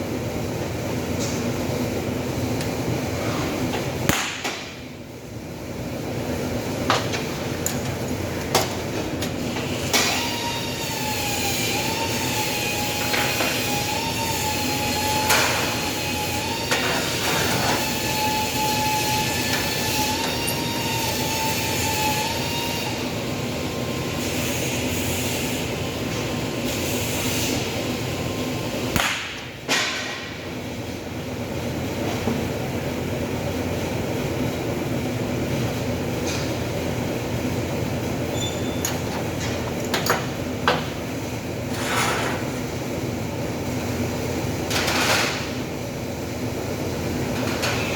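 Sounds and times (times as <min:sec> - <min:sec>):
workshop machinery noise: 0:00.0 - 0:47.9.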